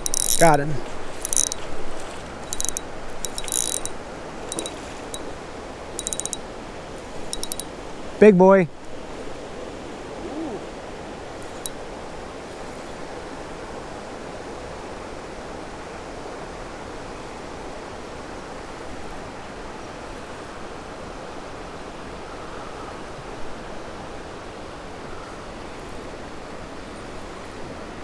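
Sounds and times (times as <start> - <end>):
creek water rushing: 0.0 - 23.4.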